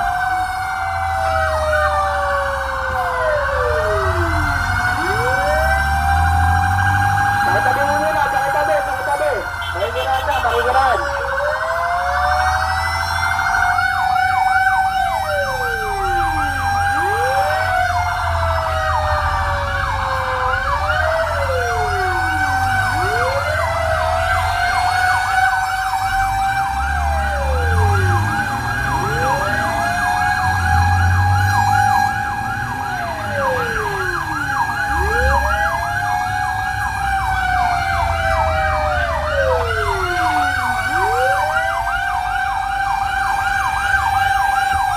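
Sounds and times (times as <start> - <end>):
siren wail: 0.0 - 44.9
siren yelp: 0.0 - 44.9.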